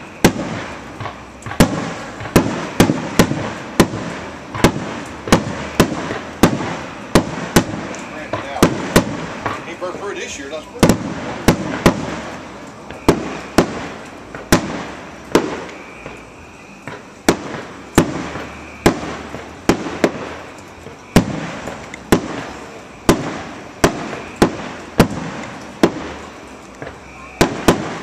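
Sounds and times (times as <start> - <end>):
firework shells bursting: 0.0 - 28.0.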